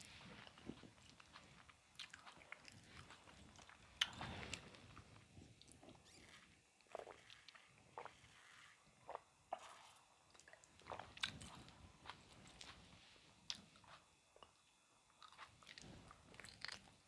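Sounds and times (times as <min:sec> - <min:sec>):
person chewing: 0:00.0 - 0:12.8, 0:15.2 - 0:17.0.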